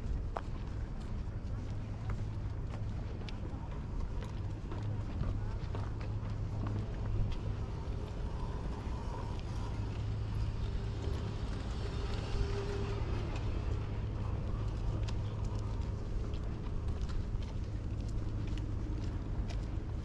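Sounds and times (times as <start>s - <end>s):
city traffic rumble: 0.0s - 20.0s
footsteps on hard path: 0.0s - 20.0s.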